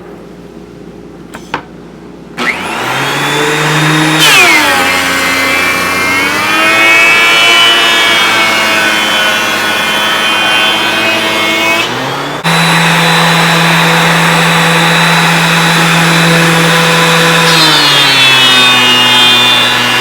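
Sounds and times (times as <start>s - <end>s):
dust collector running: 2.4s - 20.0s
planer cutting wood board: 2.4s - 20.0s
thickness planer motor hum: 2.4s - 20.0s.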